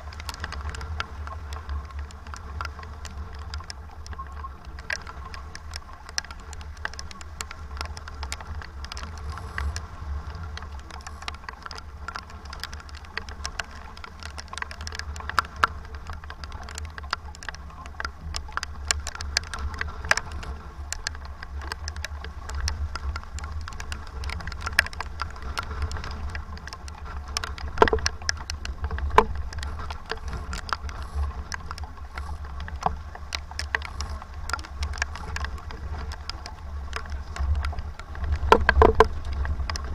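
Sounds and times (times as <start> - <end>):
sharp ticks and taps: 0.0 - 39.9
wind rumbling on microphone: 0.0 - 39.9.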